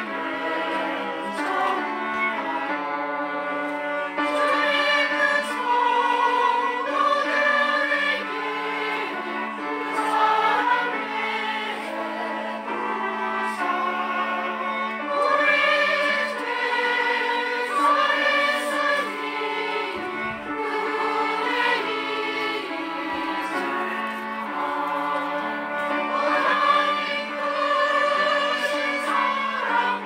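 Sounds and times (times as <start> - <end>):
choir singing a hymn: 0.0 - 30.0.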